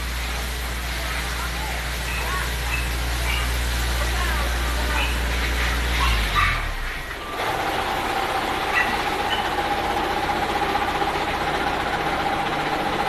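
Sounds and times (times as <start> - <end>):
water jetting from fire hose: 0.0 - 13.0.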